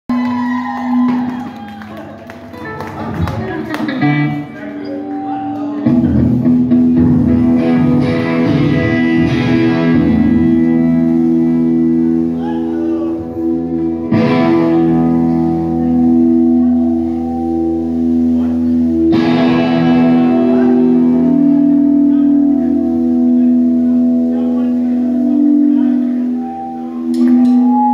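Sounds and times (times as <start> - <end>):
live rock band playing: 0.3 - 27.9
electric guitar strums: 2.6 - 12.4, 13.2 - 27.9.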